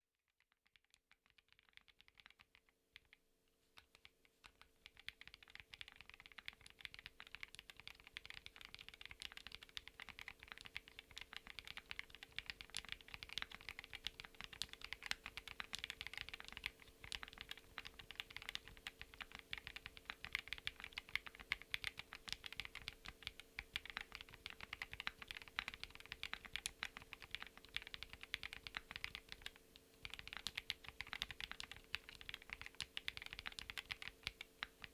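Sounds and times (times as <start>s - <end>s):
mechanical keyboard typing: 0.7s - 3.2s, 3.8s - 34.9s.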